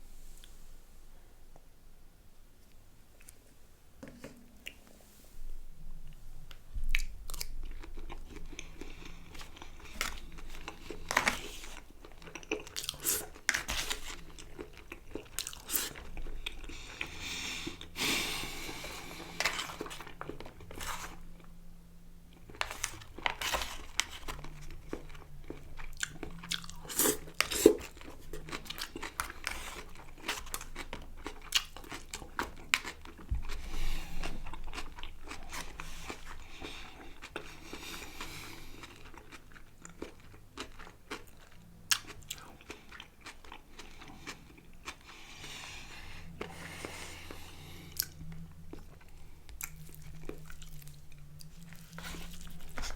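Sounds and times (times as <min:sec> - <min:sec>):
person chewing: 0:06.1 - 0:21.6, 0:22.3 - 0:52.9.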